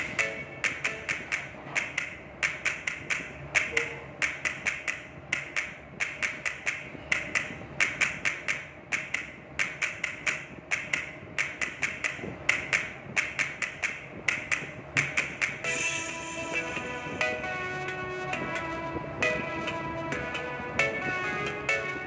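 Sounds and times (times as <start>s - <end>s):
percussive tapping music: 0.0s - 22.0s.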